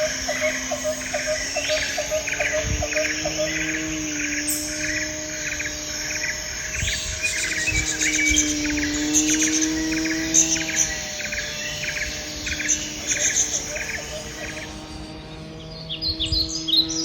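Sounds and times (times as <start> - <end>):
insects chirping: 0.0 - 17.0
low hum: 0.0 - 17.0.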